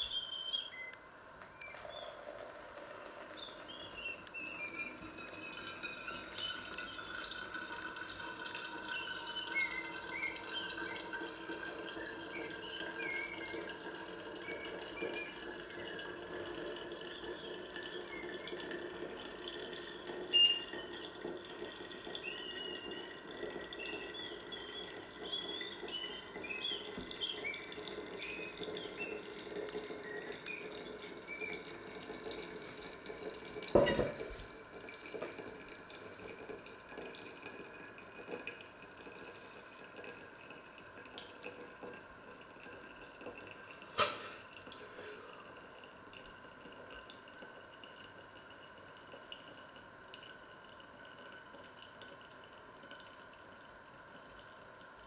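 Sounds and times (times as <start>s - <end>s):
coffee trickling and dripping: 0.0s - 55.0s
water pouring over coffee: 0.0s - 55.0s.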